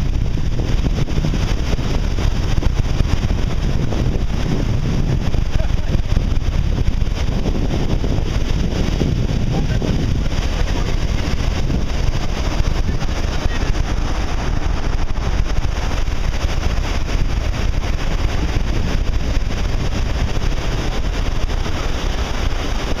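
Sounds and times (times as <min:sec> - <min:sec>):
distant rocket rumble with crackle: 0:00.0 - 0:23.0
wind buffeting microphone: 0:00.0 - 0:23.0.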